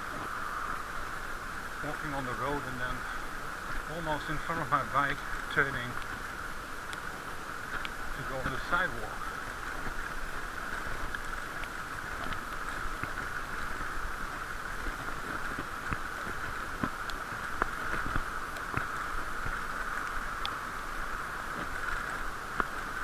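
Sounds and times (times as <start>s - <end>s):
bicycle tyres on brick paving: 0.0s - 23.0s.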